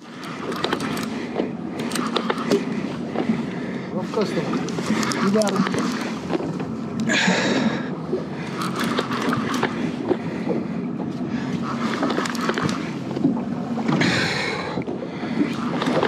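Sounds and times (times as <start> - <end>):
boat low hum: 0.0 - 16.0.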